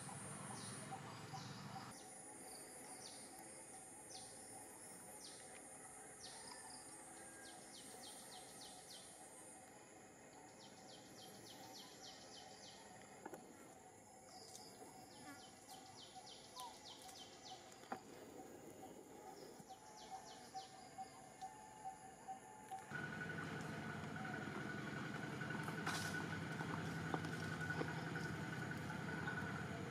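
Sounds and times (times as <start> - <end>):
insects chirping: 0.0 - 29.9.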